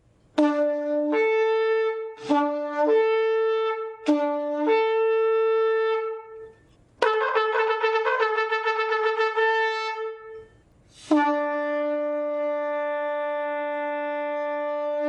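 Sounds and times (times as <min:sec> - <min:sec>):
ram's horn blasts: 0:00.4 - 0:15.0.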